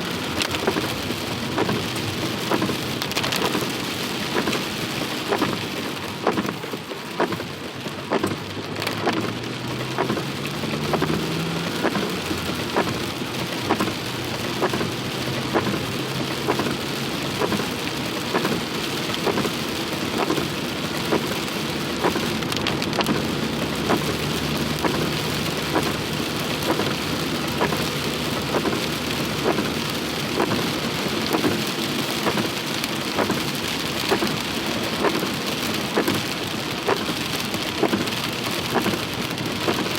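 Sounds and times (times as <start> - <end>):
heavy rain falling: 0.0 - 39.9
regular ticking: 7.2 - 39.9.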